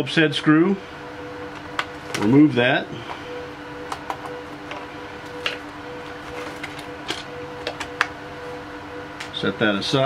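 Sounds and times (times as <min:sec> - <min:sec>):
steady faint hum: 0:00.0 - 0:10.0.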